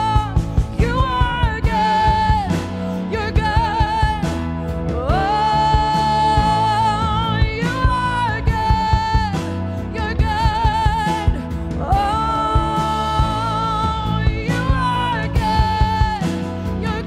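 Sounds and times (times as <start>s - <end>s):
steady drum beat: 0.0s - 17.0s
worship song: 0.0s - 17.0s.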